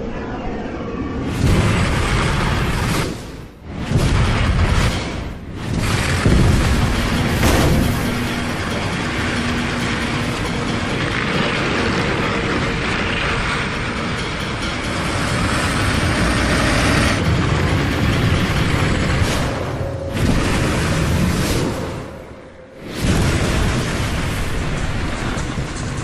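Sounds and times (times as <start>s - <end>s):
sled rushing along track: 1.2s - 26.0s.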